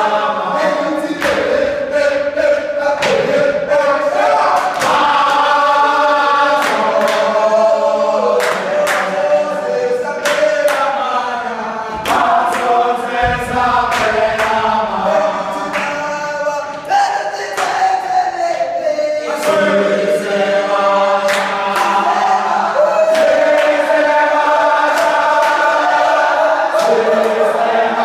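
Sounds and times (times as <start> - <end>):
group singing and chanting: 0.0 - 28.0.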